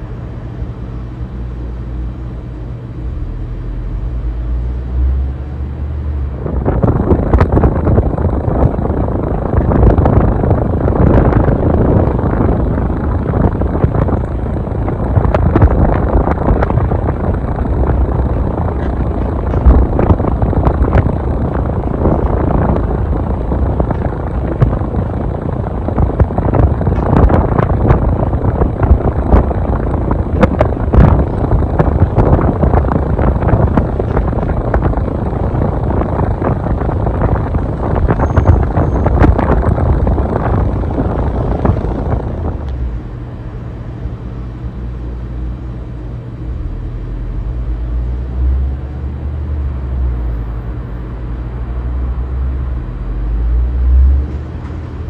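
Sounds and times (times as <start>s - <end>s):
ceiling fan wind buffeting microphone: 0.0s - 55.0s.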